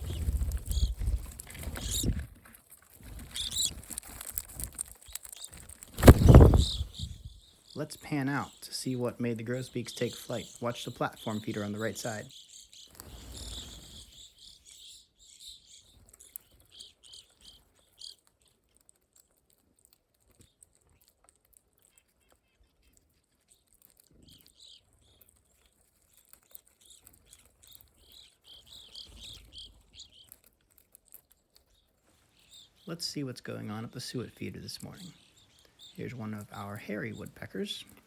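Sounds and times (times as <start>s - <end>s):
small songbirds chirping: 0.0s - 38.0s.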